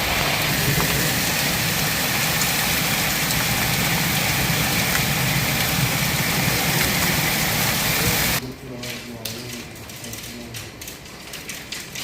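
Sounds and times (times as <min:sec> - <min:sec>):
heavy rain pouring: 0:00.0 - 0:12.0
raindrops ticking: 0:00.0 - 0:12.0.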